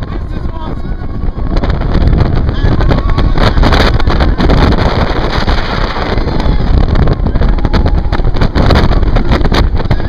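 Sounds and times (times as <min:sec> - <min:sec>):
roller coaster rumbling on track: 0:00.0 - 0:10.0
wind buffeting microphone: 0:00.0 - 0:10.0.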